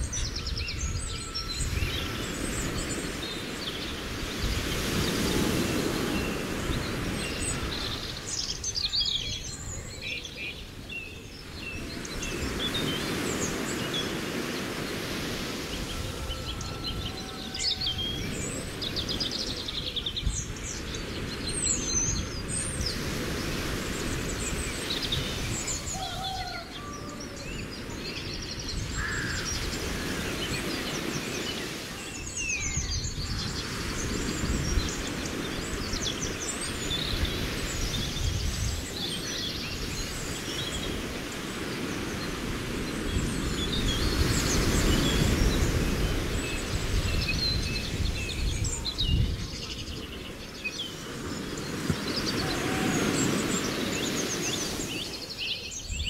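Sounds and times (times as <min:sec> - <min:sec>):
birds chirping and trilling: 0:00.0 - 0:56.0
lake water wash: 0:00.0 - 0:56.0.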